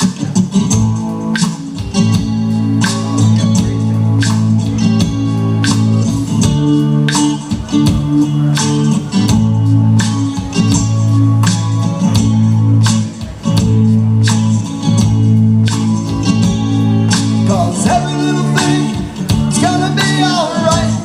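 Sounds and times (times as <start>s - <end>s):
live band playing reggae: 0.0s - 21.0s.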